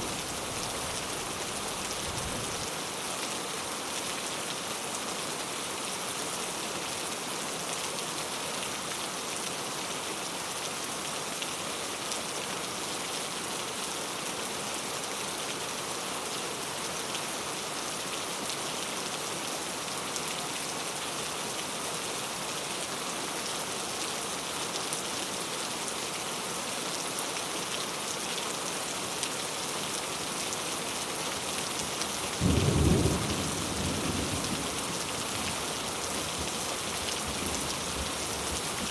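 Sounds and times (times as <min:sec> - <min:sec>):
heavy rain falling: 0:00.0 - 0:15.2, 0:15.8 - 0:38.9.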